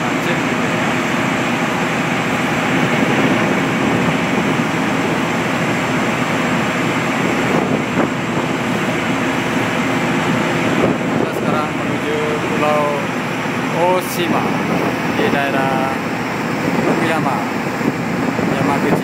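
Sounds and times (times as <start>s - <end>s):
boat engine drone: 0.0s - 19.0s
water rushing in wake: 0.0s - 19.0s.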